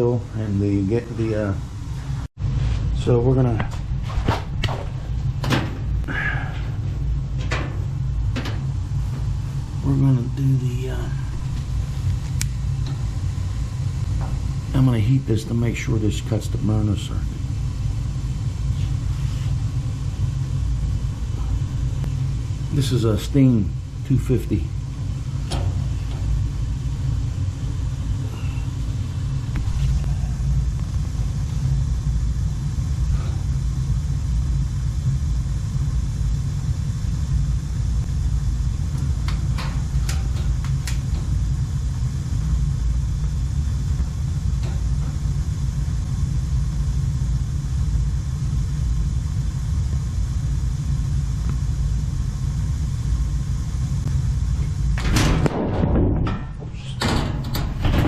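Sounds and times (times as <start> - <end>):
gas burner rumbling: 0.0 - 58.0.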